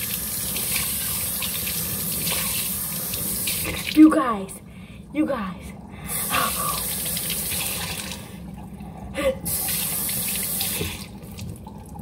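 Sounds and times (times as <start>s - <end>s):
kitchen tap running: 0.0s - 4.3s, 5.9s - 12.0s.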